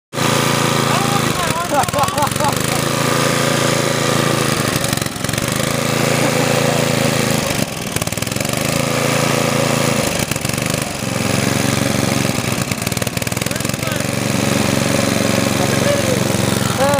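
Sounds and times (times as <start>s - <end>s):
lawn tractor engine running: 0.1s - 16.9s.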